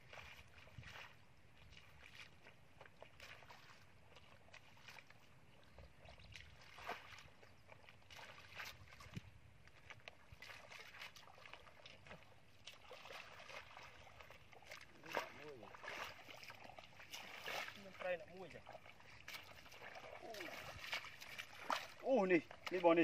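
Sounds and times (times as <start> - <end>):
feet squelching through mud and water: 0.0 - 23.0.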